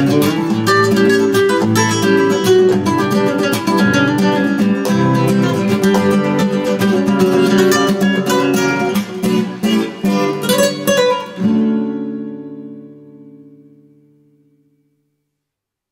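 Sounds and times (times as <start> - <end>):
fast flamenco guitar: 0.0 - 13.9.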